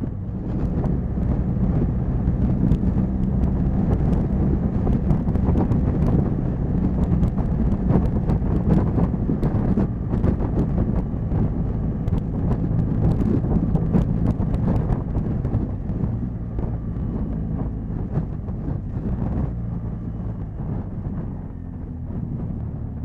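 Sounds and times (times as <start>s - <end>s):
motorcycle engine cruising: 0.0s - 23.0s
wind on microphone: 0.0s - 23.0s.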